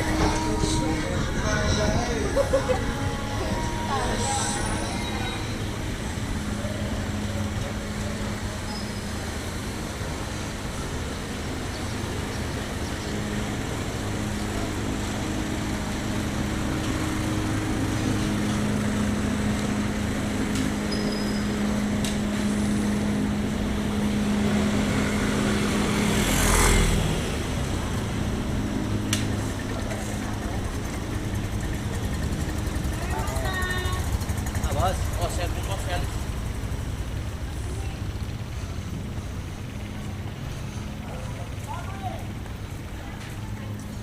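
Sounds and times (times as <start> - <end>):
vehicle passing close: 0.0 - 42.8
vehicle engines running: 0.0 - 44.0.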